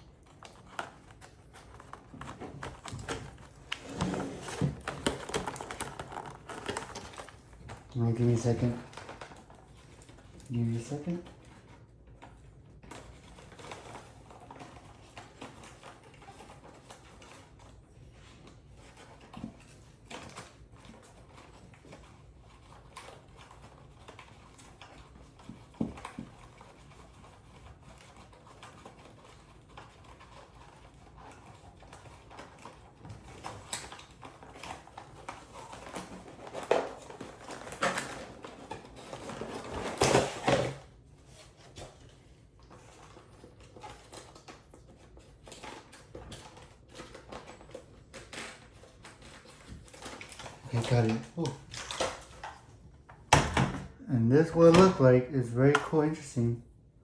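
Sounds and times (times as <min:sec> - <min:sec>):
handling plastic toy and packaging: 0:00.0 - 0:56.6.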